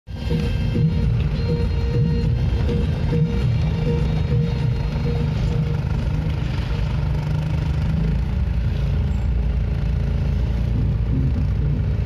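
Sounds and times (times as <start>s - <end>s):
car interior engine and road noise: 0.1s - 12.0s.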